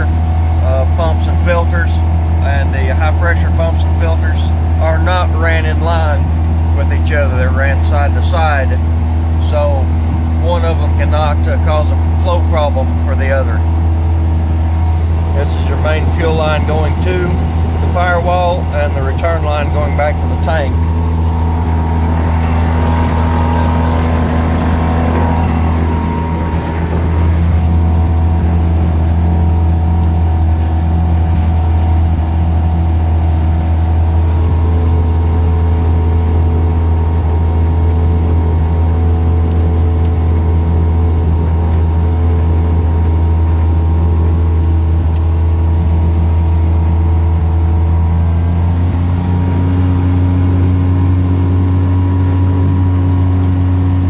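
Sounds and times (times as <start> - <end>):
aircraft engine and propeller: 0.0 - 54.0.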